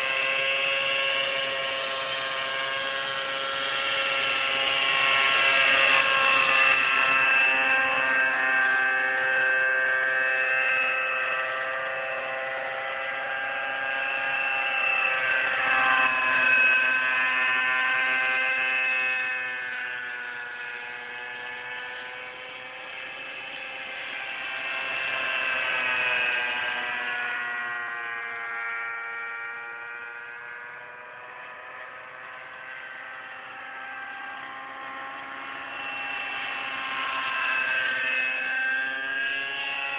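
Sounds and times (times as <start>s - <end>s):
model helicopter high whine: 0.0s - 39.9s.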